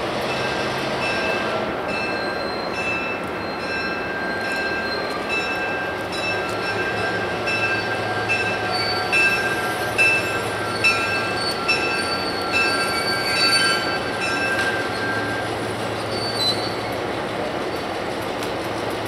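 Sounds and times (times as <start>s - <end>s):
locomotive bell ringing: 0.2s - 17.0s.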